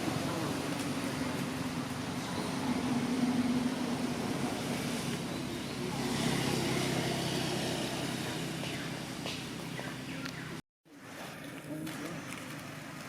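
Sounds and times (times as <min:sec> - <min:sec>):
vehicle engine hum: 0:00.0 - 0:10.6
road noise: 0:00.0 - 0:13.0.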